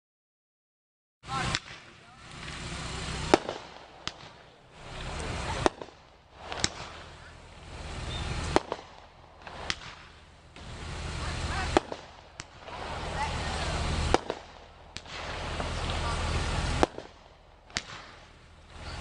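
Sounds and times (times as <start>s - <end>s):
firework hiss and bang: 1.3s - 19.0s
small firework crack: 1.3s - 19.0s.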